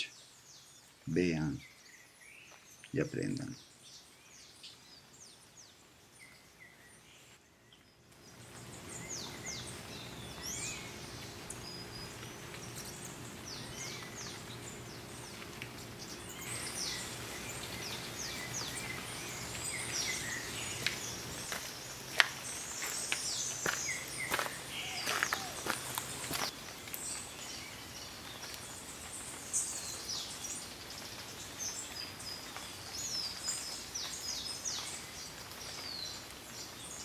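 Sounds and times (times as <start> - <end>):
birds chirping: 0.0 - 37.0
steady outdoor hiss: 0.0 - 37.0.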